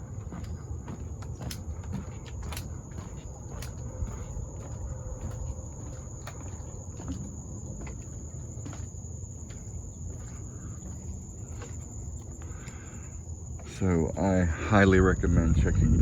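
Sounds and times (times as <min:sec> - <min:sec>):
footsteps on wooden boardwalk: 0:00.0 - 0:14.3
insects droning: 0:00.0 - 0:16.0.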